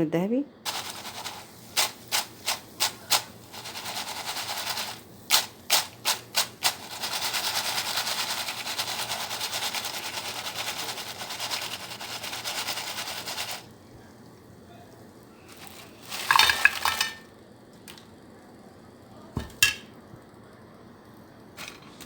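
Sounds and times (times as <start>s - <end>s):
fries sizzling in hot oil: 0.6s - 22.0s.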